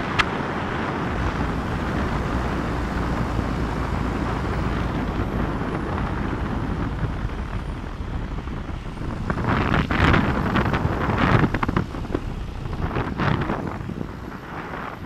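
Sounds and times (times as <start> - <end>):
truck engine and tyre noise: 0.0 - 15.0
wind buffeting microphone: 0.0 - 15.0.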